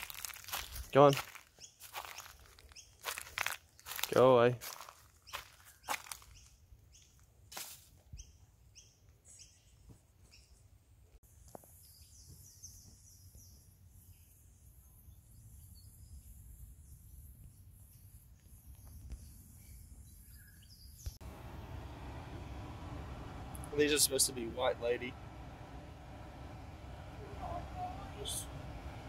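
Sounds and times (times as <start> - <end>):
small birds chirping: 0.0 - 7.4, 8.1 - 10.8, 11.6 - 29.0.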